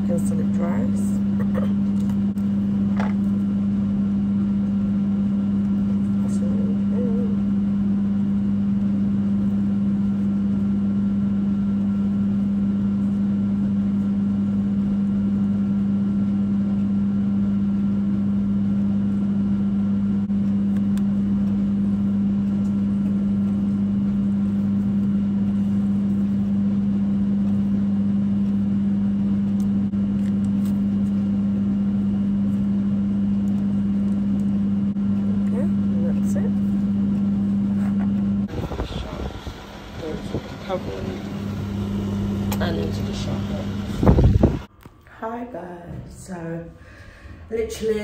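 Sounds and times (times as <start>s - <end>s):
air conditioner humming: 0.0s - 48.0s.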